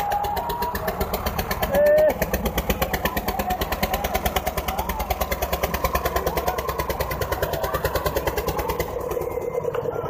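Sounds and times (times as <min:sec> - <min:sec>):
tractor diesel engine chugging: 0:00.0 - 0:10.0.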